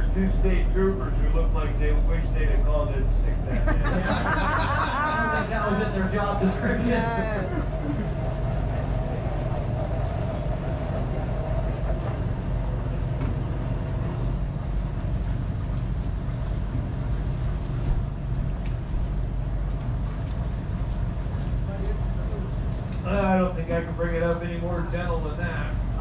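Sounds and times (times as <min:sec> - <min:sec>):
boat engine drone: 0:00.0 - 0:26.0
higher hum: 0:00.0 - 0:26.0.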